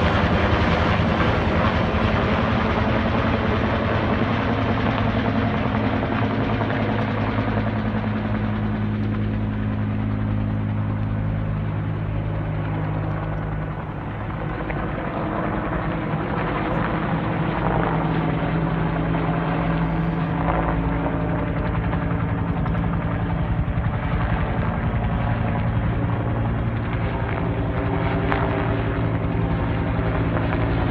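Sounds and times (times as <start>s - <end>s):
helicopter rotors beating: 0.0s - 30.9s.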